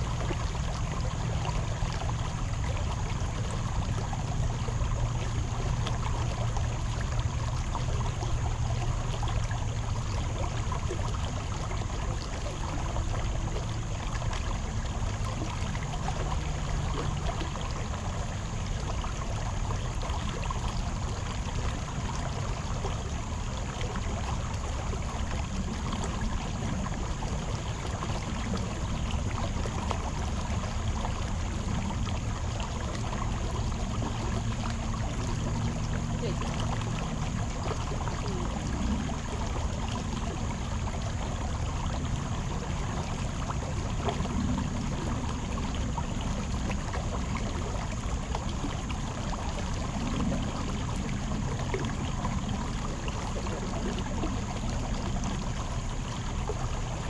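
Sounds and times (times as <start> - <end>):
creek water rushing over stones: 0.0 - 57.0.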